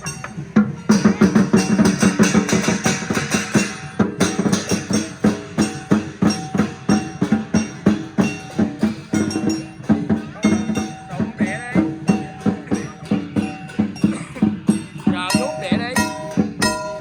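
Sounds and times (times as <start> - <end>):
cymbals clashing: 0.0 - 17.0
large drum beating: 0.0 - 17.0.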